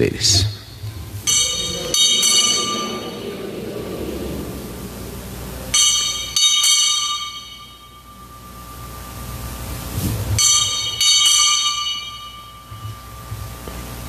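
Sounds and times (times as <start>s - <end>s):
altar bells ringing: 0.4s - 14.0s.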